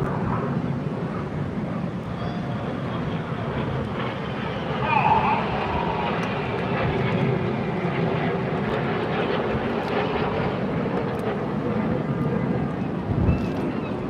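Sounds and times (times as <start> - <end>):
jet engines flying overhead: 0.0 - 14.0.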